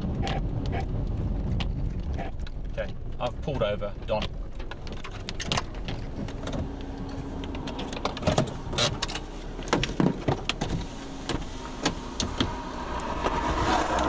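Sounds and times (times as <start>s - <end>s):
hailstones tapping on vehicle: 0.0s - 13.1s.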